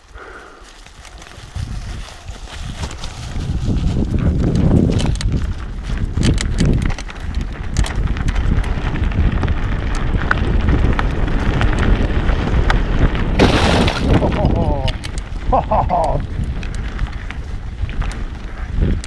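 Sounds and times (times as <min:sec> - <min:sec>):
tyres rolling on dirt trail: 0:00.0 - 0:19.0
bike clicks and rattles: 0:00.6 - 0:13.4, 0:14.0 - 0:19.0
wind buffeting microphone: 0:00.7 - 0:19.0.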